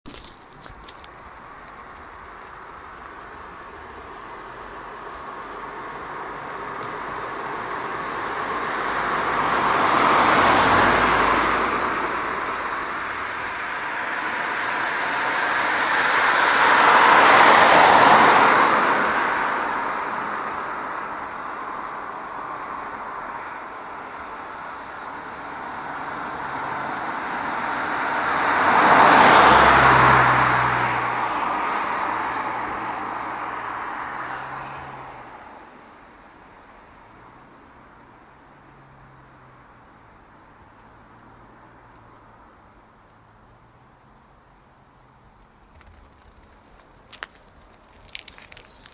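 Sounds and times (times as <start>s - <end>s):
cars passing: 0.1s - 48.9s.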